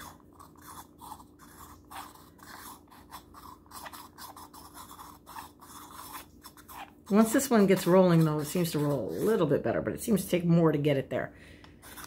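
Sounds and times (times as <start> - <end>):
stone roller scratching on skin: 0.0 - 9.7, 11.8 - 12.0.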